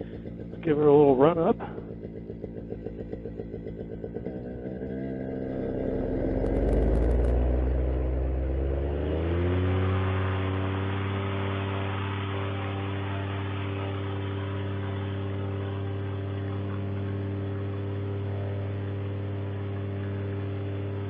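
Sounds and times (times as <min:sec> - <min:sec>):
paramotor engine revving: 0:00.0 - 0:21.0.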